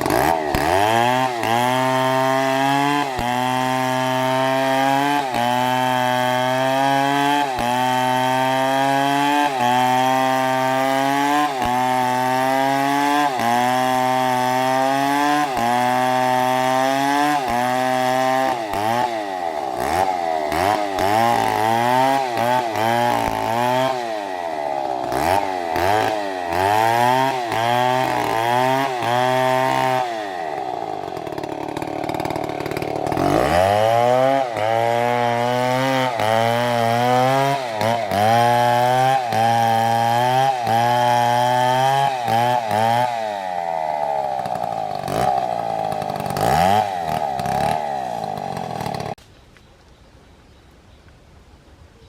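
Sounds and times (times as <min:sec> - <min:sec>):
chainsaw engine revving: 0:00.0 - 0:49.2.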